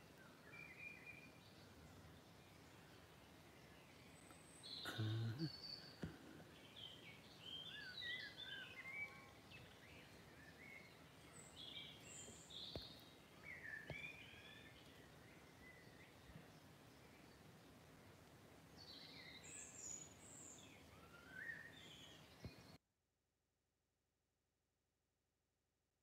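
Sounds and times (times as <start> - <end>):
songbirds singing: 0.0 - 22.8.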